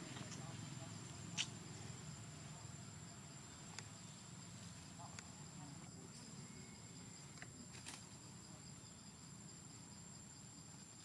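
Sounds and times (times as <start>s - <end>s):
pulsing insect call: 0.0s - 11.0s
high-pitched insect drone: 0.1s - 11.0s.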